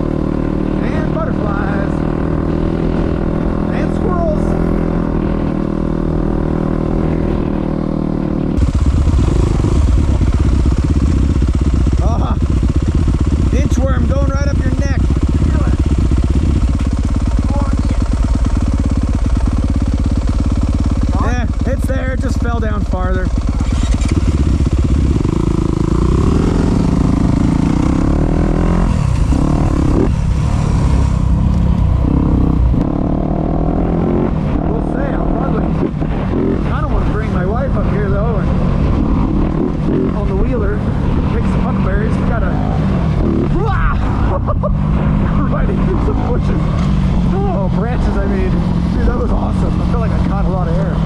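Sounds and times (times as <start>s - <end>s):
dirt bike engine running: 0.0s - 51.0s.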